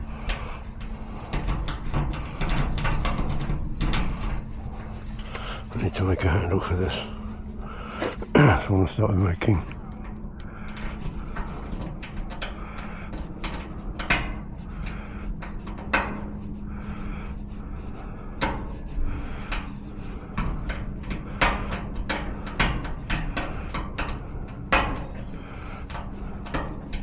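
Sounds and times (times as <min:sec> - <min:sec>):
clicks taps and rubbing of hard parts: 0:00.2 - 0:08.3, 0:09.4 - 0:16.4, 0:19.4 - 0:27.0.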